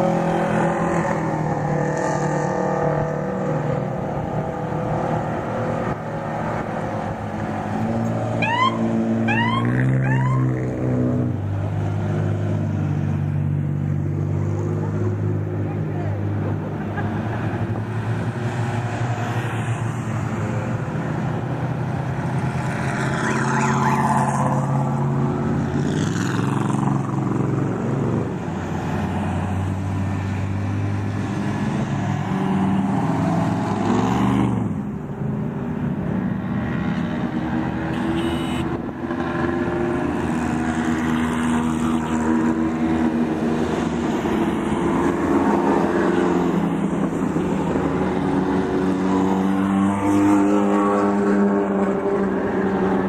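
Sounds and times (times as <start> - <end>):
vehicles driving past: 0.0 - 53.0.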